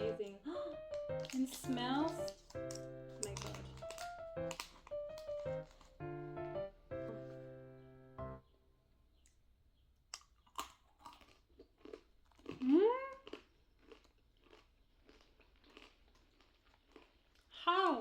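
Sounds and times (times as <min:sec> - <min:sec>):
crunching and chewing nuts: 0:00.0 - 0:06.6, 0:10.0 - 0:18.0.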